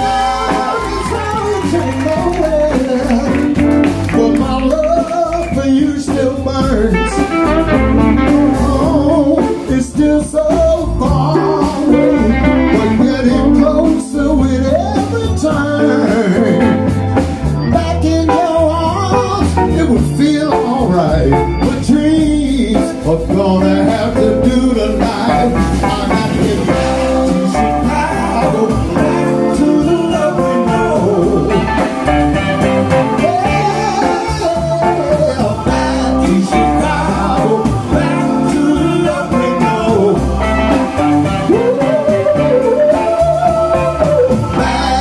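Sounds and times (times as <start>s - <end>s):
live blues band playing: 0.0s - 45.0s.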